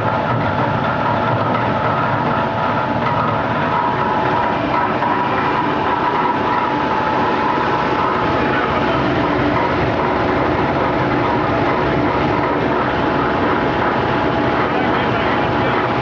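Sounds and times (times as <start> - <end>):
washing machine rumbling and rattling: 0.0 - 16.0.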